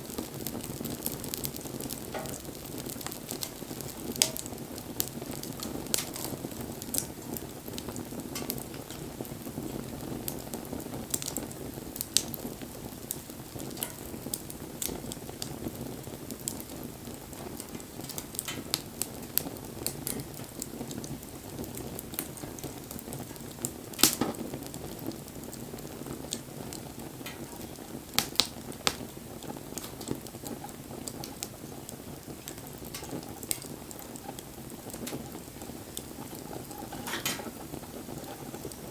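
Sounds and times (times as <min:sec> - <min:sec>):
bonfire flames rushing: 0:00.0 - 0:38.9
fire crackling and popping: 0:00.0 - 0:38.9.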